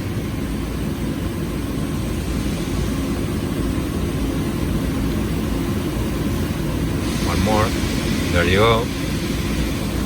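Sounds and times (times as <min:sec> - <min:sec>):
low machinery drone: 0:00.0 - 0:10.0.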